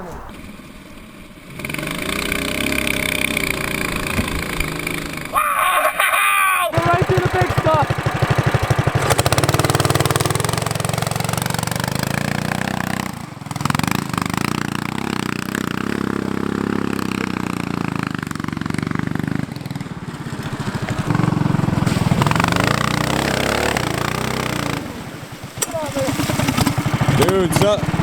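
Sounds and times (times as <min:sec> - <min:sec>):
kart engine running under load: 0:00.0 - 0:06.1, 0:06.7 - 0:28.0.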